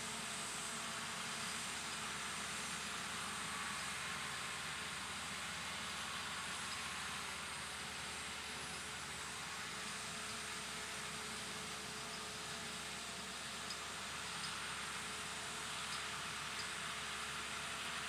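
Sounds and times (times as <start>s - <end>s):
tractor diesel engines running: 0.0s - 18.0s.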